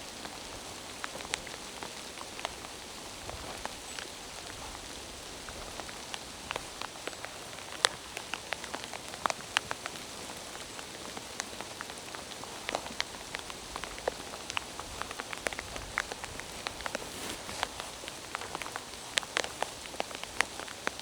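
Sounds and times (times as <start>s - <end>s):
raindrops ticking close by: 0.0s - 17.0s, 17.6s - 21.0s
steady rain hiss: 0.0s - 21.0s.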